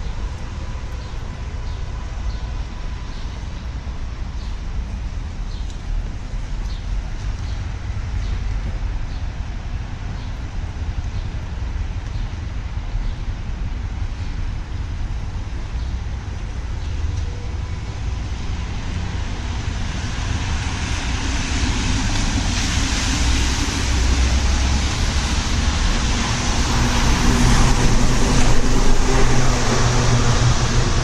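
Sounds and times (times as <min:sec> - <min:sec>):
road noise hiss: 0:00.0 - 0:31.0
vehicle engine hum: 0:00.0 - 0:31.0.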